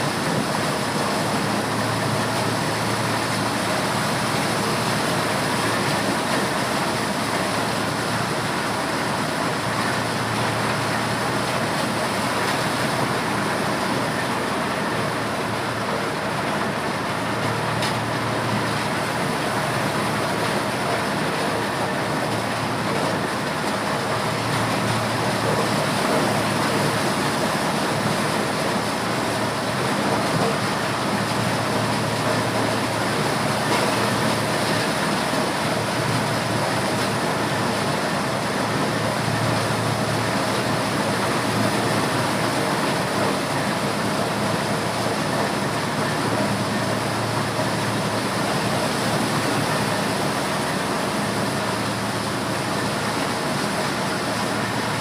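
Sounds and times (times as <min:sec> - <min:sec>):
corn sheller running: 0:00.0 - 0:55.0.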